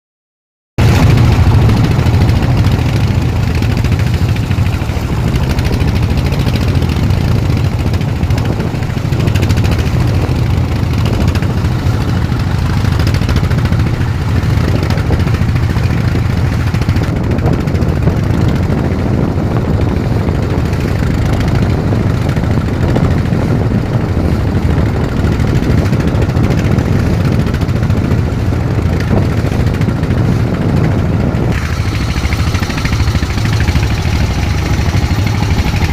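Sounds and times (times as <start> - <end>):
boat engine running: 0.8 - 35.9.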